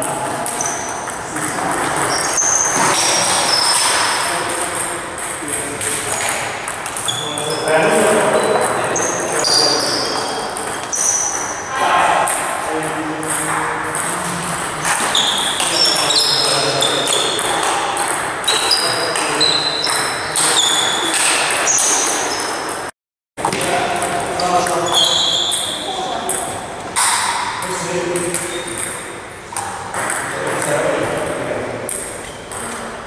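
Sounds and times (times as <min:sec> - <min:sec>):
table tennis ball pings: 0:00.3 - 0:27.6, 0:28.2 - 0:31.2, 0:31.8 - 0:32.9.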